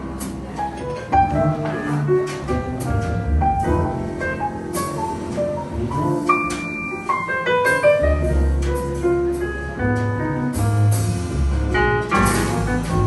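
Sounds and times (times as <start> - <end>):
deep bass notes: 0.0 - 6.5, 7.7 - 13.0
piano chords and melody: 0.0 - 13.0.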